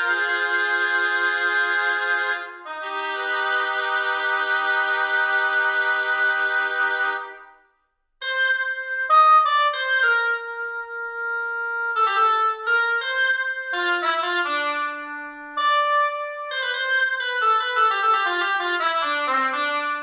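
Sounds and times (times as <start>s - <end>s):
woodwind melody: 0.0s - 20.0s.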